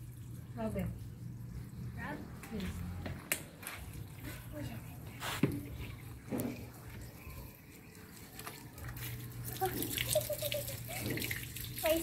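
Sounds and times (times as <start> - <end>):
water splashing from hose onto concrete: 0.0 - 12.0.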